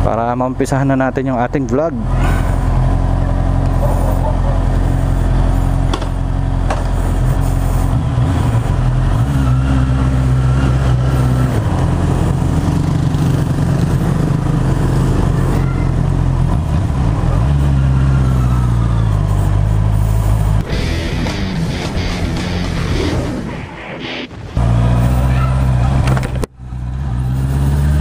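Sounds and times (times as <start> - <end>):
motorcycle engine revving: 1.9 - 28.0.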